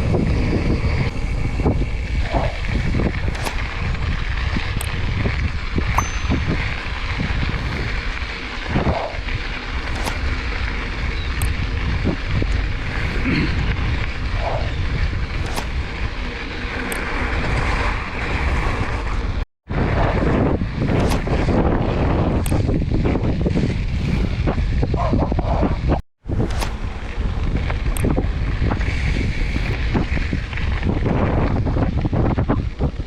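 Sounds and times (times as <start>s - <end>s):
bike clicks and rattles: 0.0s - 33.0s
bike tyres rolling on trail: 0.0s - 33.0s
wind noise on microphone: 0.0s - 33.0s.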